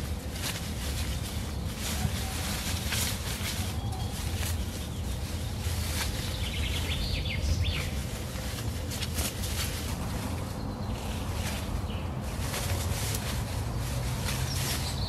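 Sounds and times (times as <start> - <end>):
leafy branches rustling: 0.0 - 15.0
steady low rumble: 0.0 - 15.0.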